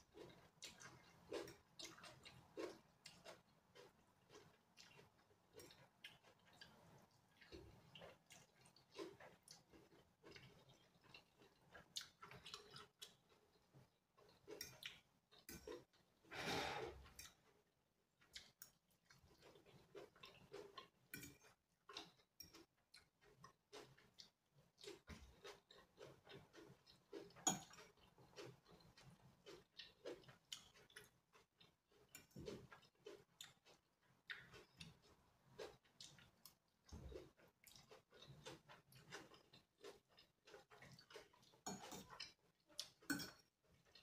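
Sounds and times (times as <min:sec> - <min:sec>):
chewing and mouth clicks: 0:00.0 - 0:16.2, 0:17.0 - 0:44.0.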